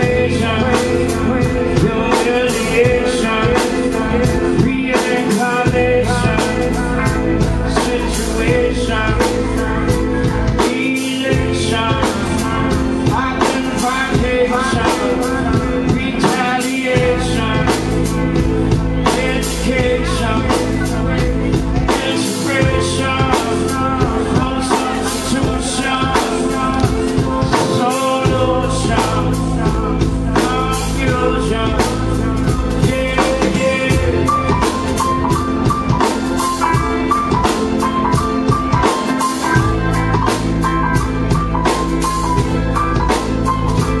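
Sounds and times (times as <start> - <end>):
high melodic line: 0.0 - 44.0
live rock band playing: 0.0 - 44.0
man singing: 0.0 - 44.0.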